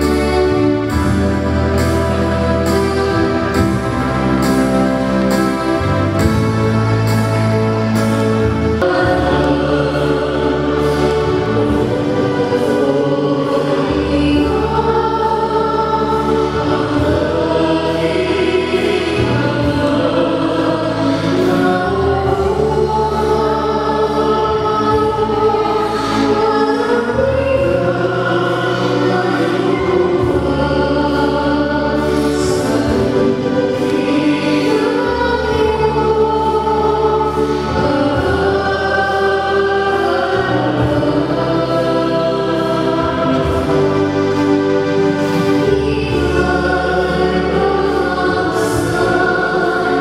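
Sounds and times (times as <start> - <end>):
choir singing a hymn: 0.0 - 50.0
long-held bass notes: 0.0 - 50.0.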